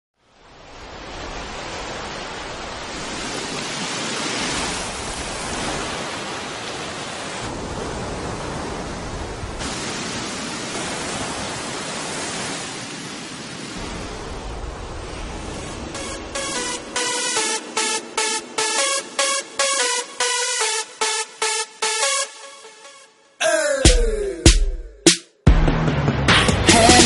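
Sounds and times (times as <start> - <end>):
ocean surf washing onto beach: 0.3 - 22.2.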